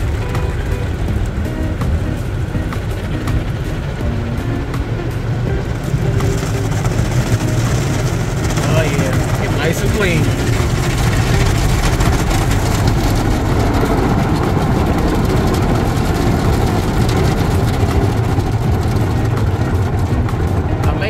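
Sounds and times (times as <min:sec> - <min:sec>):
car wash brushes rumbling: 0:00.0 - 0:21.0.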